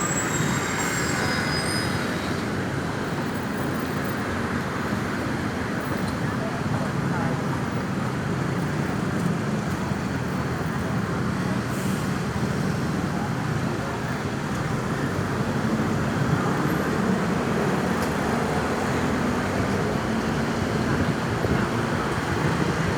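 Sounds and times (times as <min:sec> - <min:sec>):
road traffic noise: 0:00.0 - 0:22.9.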